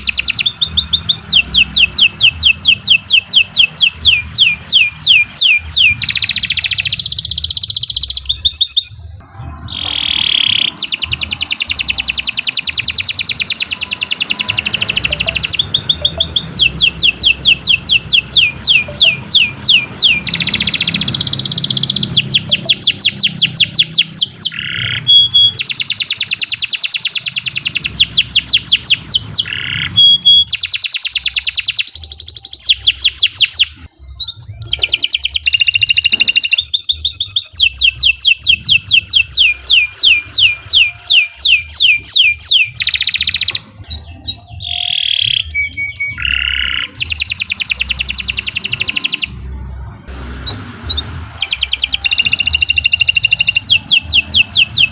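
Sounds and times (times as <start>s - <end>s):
canary singing: 0.0s - 54.9s.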